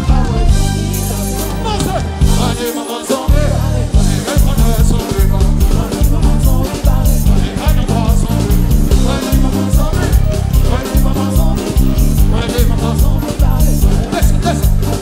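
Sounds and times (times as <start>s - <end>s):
live concert music with heavy bass: 0.0s - 15.0s.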